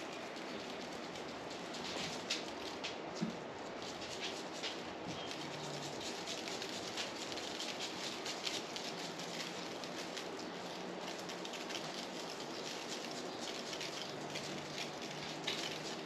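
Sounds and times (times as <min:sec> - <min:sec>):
spice granules pattering on meat: 0:00.0 - 0:16.0.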